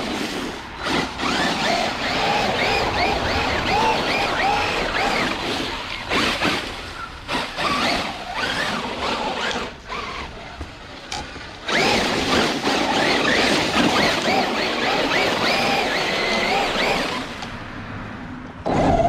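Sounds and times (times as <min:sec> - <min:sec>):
electric motor whining: 0:00.0 - 0:10.7, 0:11.6 - 0:17.5
tyres rushing on ground: 0:00.0 - 0:17.6.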